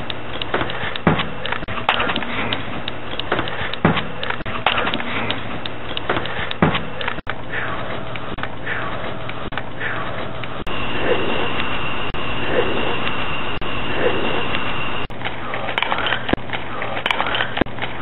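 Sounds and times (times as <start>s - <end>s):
faint low hum: 0.0s - 18.0s
recorder playback hiss and crackle: 0.0s - 18.0s.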